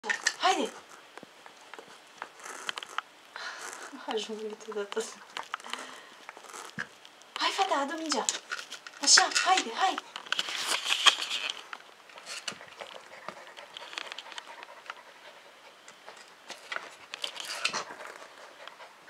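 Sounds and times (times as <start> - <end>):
puppy scratching on carpet: 0.0 - 5.6, 6.2 - 19.0.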